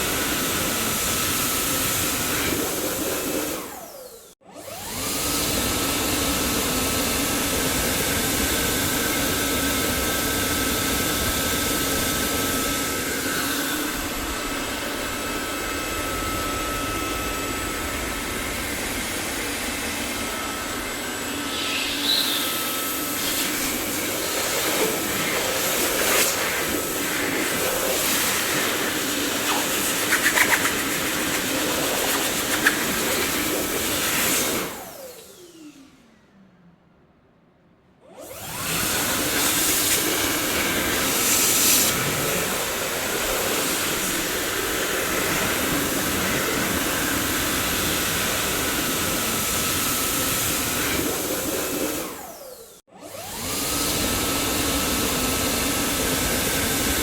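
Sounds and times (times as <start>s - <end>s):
vacuum cleaner motor running: 0.0s - 36.2s, 38.0s - 57.0s.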